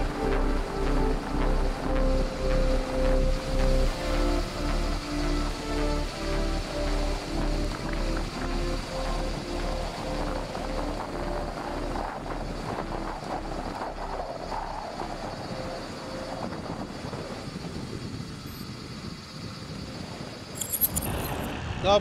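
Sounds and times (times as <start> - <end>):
faint music: 0.0 - 19.4
wind rushing over microphone: 0.0 - 22.0.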